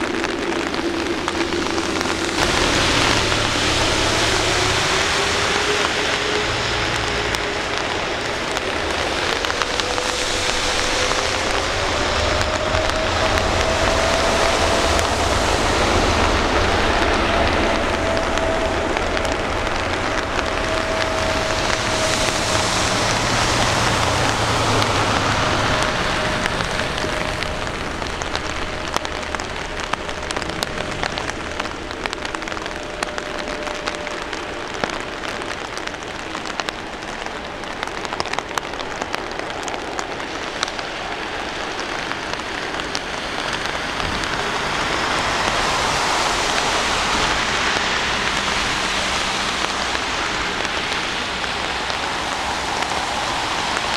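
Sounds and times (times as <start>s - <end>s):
heavy rain: 0.0s - 53.9s
jet engines roaring: 0.0s - 53.9s
raindrops ticking: 0.0s - 53.9s.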